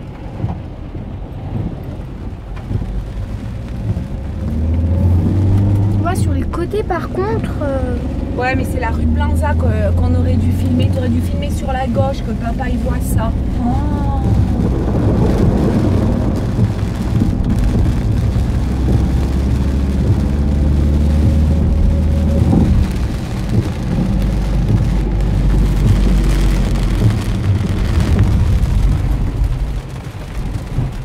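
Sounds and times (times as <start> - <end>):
car engine and tyres rumbling: 0.0 - 31.0
heavy rain on a car: 0.0 - 31.0.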